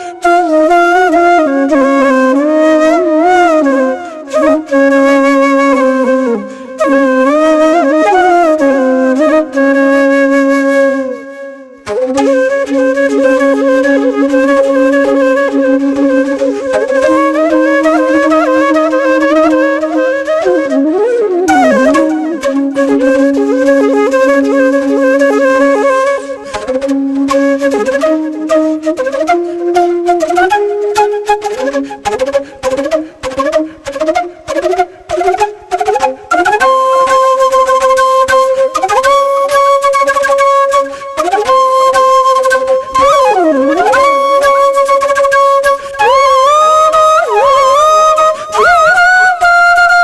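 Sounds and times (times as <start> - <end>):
flute melody: 0.0 - 50.0.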